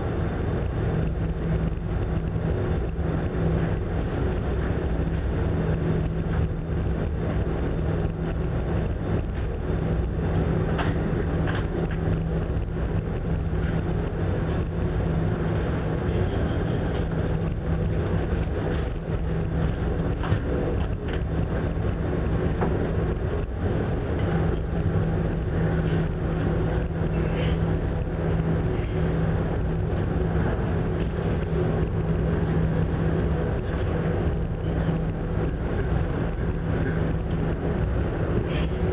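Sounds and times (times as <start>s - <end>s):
rush of wind and sea: 0.0s - 38.9s
ship engines humming: 0.0s - 38.9s.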